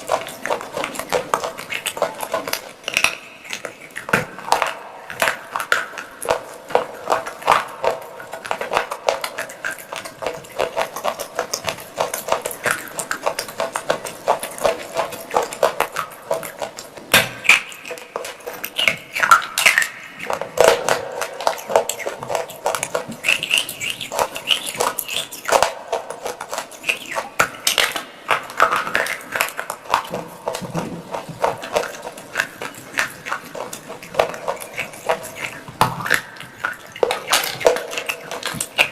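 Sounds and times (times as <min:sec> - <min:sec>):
chewing crunchy clay pieces: 0:00.0 - 0:38.9.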